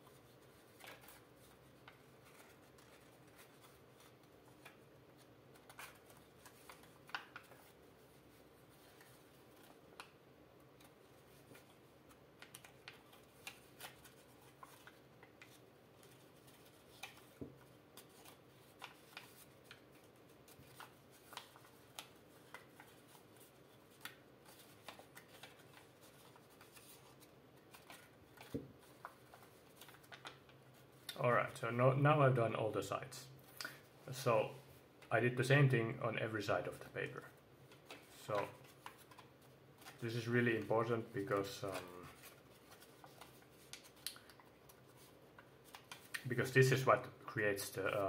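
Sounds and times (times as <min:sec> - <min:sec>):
paper being folded and creased: 0:00.0 - 0:31.1, 0:37.2 - 0:46.8.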